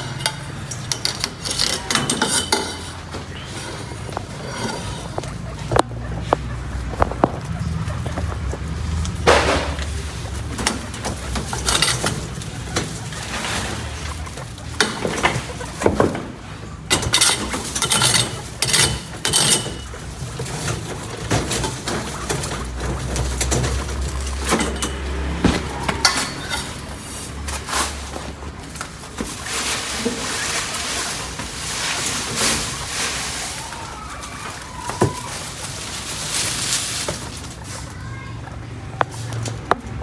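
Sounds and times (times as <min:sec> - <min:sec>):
straw bedding rustling: 0:02.8 - 0:40.0.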